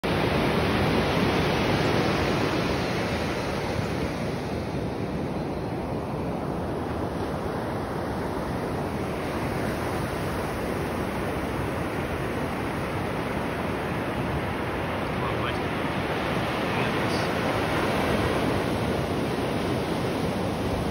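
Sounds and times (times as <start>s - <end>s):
surf washing up beach: 0.0s - 20.9s.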